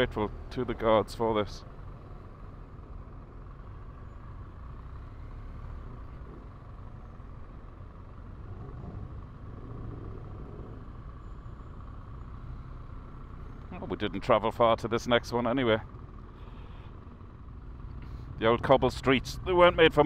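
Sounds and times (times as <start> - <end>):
motorcycle engine low rumble: 0.0 - 20.0
road and wind noise: 0.0 - 20.0.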